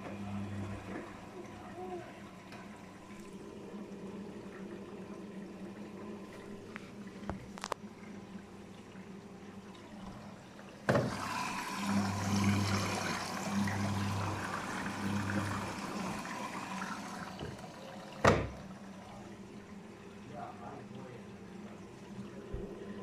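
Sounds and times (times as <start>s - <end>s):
water rushing into washing machine: 0.0s - 23.0s.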